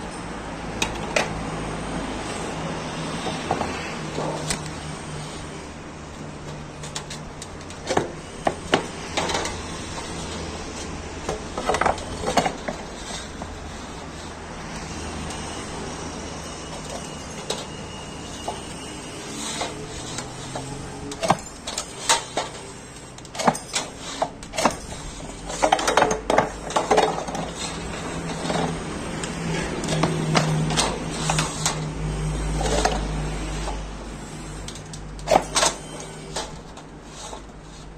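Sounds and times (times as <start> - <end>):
machinery humming: 0.4 - 37.8
metal clanks and rattles: 3.1 - 37.9.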